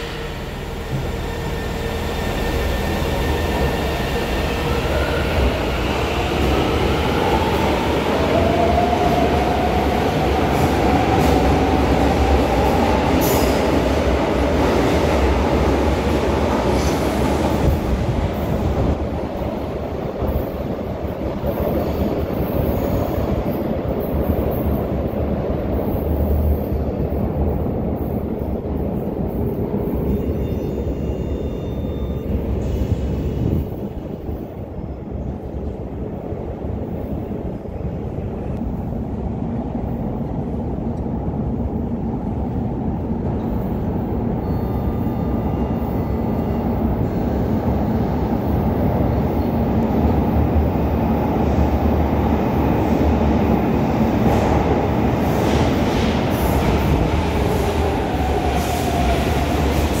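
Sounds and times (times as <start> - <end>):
metro train rail rumble: 0.0 - 60.0.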